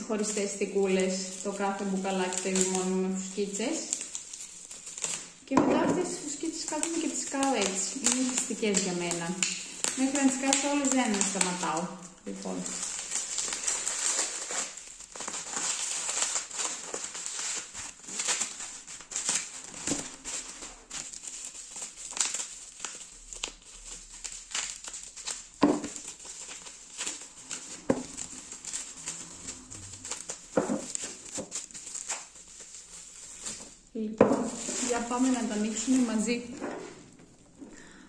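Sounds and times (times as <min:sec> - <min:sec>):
bubble wrap popping: 0:00.0 - 0:36.6
bubble wrap crinkling: 0:00.0 - 0:37.9.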